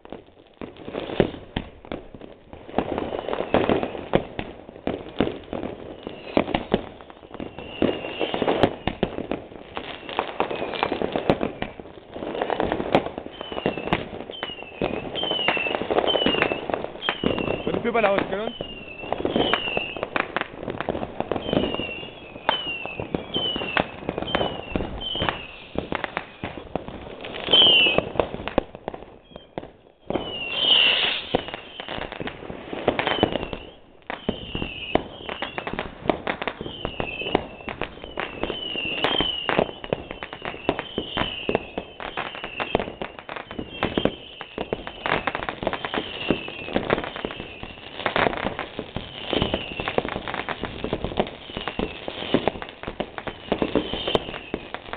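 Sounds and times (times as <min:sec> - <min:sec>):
fireworks bangs and crackles: 0:00.0 - 0:54.9
loud firework blasts: 0:00.0 - 0:54.9
falling firework whistles: 0:02.7 - 0:54.9.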